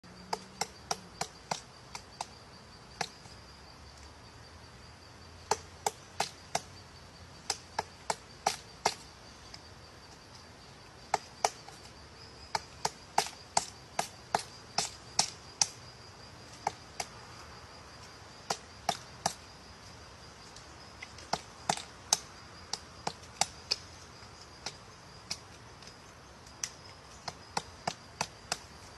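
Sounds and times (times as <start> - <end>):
woodpecker pecking on tree trunk: 0.1 - 3.4, 5.4 - 6.8, 7.4 - 17.2, 18.3 - 19.5, 20.4 - 28.9.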